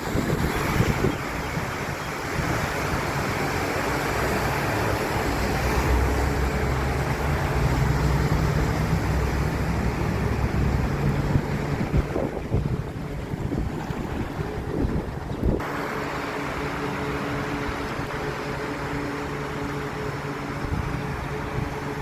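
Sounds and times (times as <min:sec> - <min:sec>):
heavy rain pouring: 0:00.0 - 0:22.0
low steady hum: 0:00.0 - 0:22.0.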